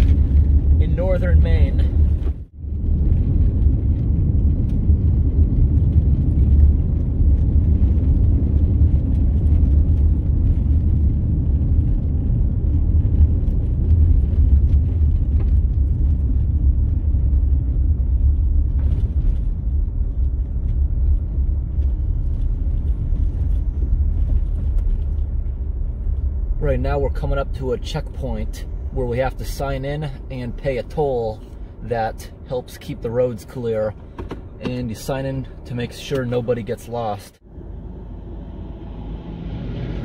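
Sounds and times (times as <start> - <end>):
car driving on gravel: 0.0 - 40.0.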